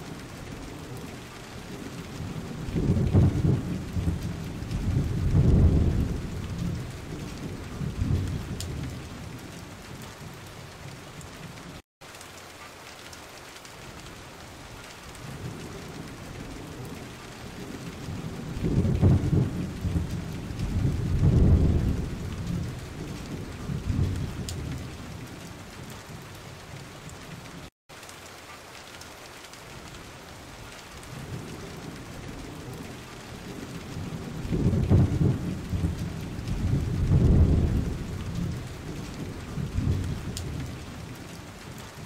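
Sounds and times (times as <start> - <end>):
steady rain: 0.0 - 42.0
thunder rumbling: 0.1 - 11.3, 15.2 - 27.5, 31.0 - 42.0.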